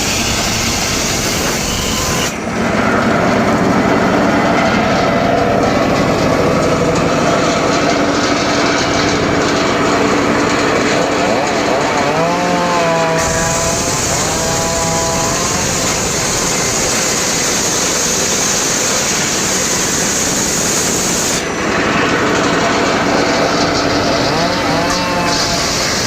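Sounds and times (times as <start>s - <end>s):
circular saw cutting wood: 0.0s - 26.0s.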